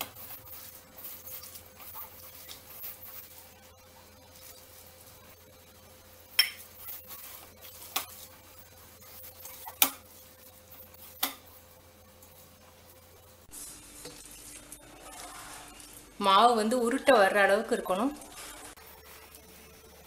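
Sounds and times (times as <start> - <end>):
hand-mixing in a steel bowl: 0.0 - 20.0.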